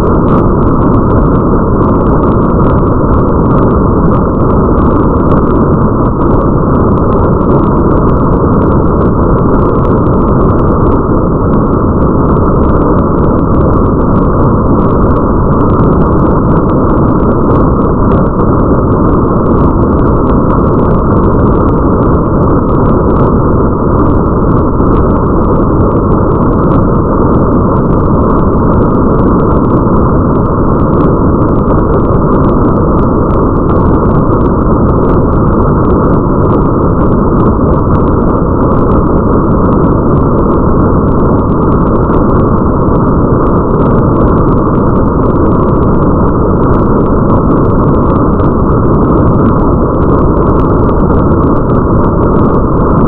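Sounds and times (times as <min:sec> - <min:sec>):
muffled rain: 0:00.0 - 0:53.0.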